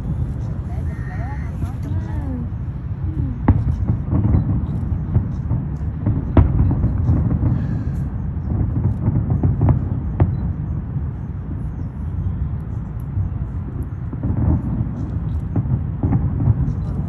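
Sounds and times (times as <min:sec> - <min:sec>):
fireworks cracks: 0:00.0 - 0:11.8, 0:12.8 - 0:17.0
fireworks booming: 0:00.0 - 0:17.0.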